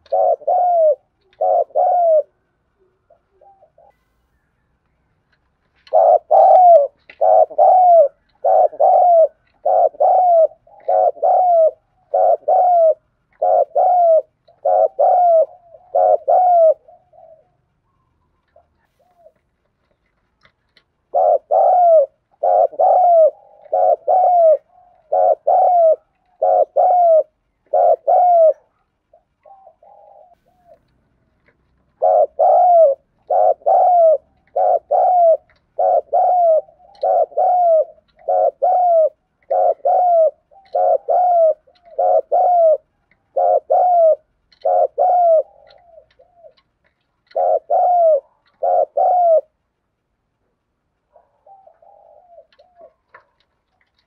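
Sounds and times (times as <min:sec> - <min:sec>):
dove cooing: 0:00.0 - 0:04.6, 0:05.7 - 0:49.7, 0:50.4 - 0:54.0.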